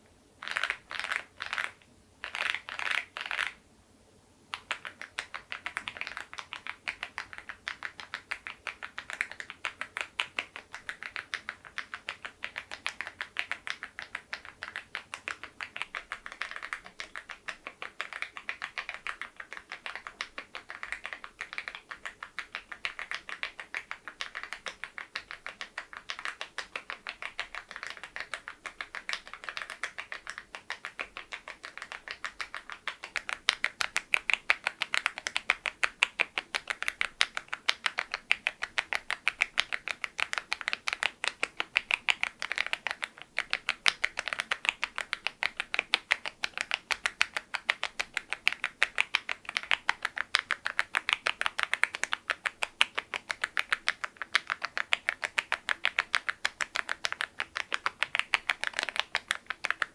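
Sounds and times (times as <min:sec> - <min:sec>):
mechanical keyboard typing: 0:00.4 - 0:03.6, 0:04.5 - 0:59.9.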